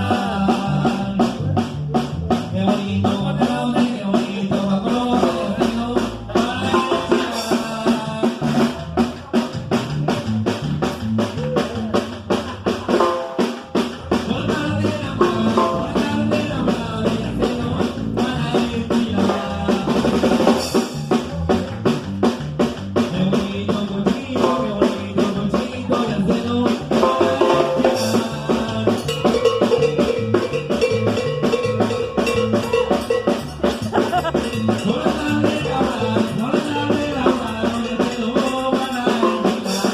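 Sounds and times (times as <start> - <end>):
band music: 0.0 - 39.9
bass line: 0.0 - 39.9
drum kit beat: 0.0 - 39.9.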